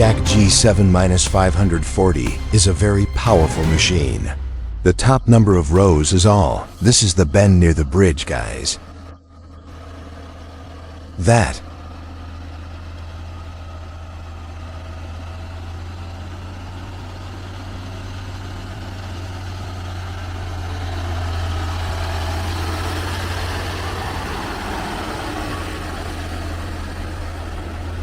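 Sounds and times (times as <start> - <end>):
truck diesel engine labouring: 0.0 - 28.0.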